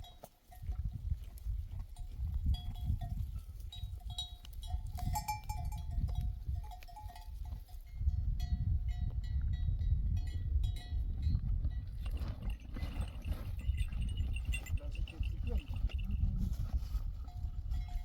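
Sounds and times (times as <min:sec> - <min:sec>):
sheep bells clanking: 0:00.0 - 0:18.0.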